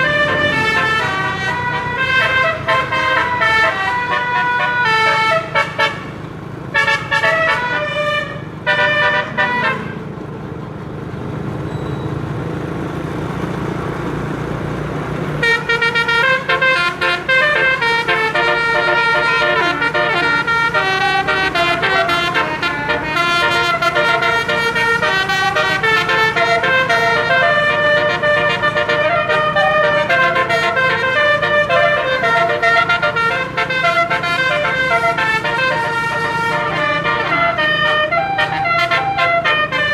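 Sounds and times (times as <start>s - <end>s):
bus air horn playing tunes: 0.0s - 10.2s, 15.4s - 39.9s
engine and road noise: 0.0s - 39.9s.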